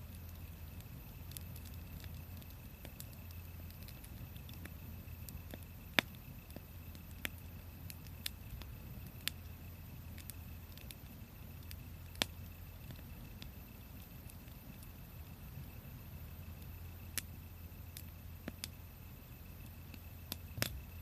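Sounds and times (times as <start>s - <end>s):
sharp pops of fire: 0.0s - 21.0s
wood fire crackling: 0.0s - 21.0s.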